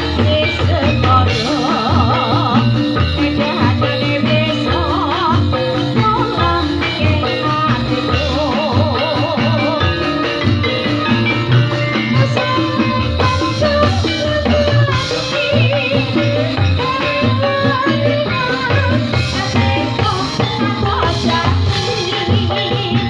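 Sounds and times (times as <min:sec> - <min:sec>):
rattling percussion: 0:00.0 - 0:23.0
steady drums: 0:00.0 - 0:23.0
vibrato vocal melody: 0:00.0 - 0:23.0.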